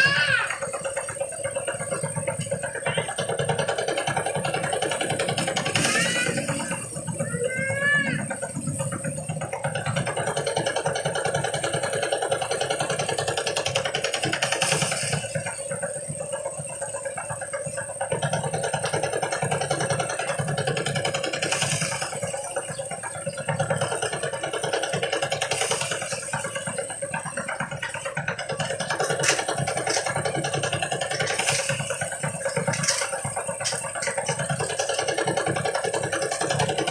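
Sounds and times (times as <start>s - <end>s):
threshing machine running: 0.0s - 36.9s.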